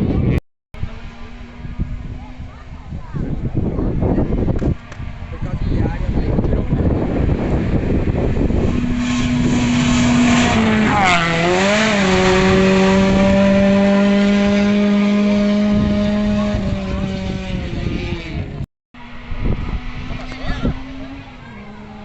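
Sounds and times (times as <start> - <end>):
rally car engine at high revs: 0.8 - 22.0.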